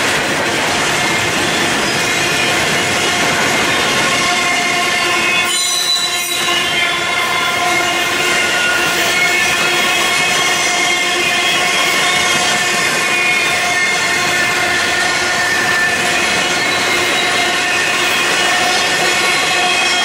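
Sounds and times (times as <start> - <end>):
freight train cars rolling: 0.0 - 20.0
train wheels squealing on rails: 0.0 - 20.0.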